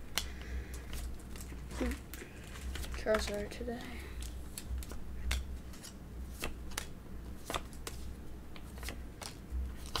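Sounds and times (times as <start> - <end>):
steady low hum: 0.0 - 10.0
cards flipping with clicks: 0.1 - 3.5, 4.2 - 10.0.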